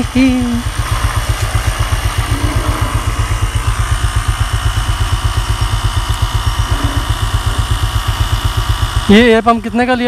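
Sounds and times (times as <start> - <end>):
tyre inflator compressor chugging: 0.0 - 10.0.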